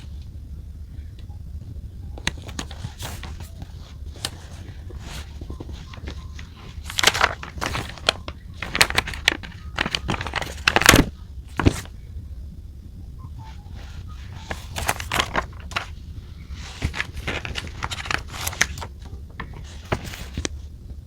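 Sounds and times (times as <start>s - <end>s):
paper crinkling and rustling: 2.2s - 11.9s, 13.5s - 20.7s.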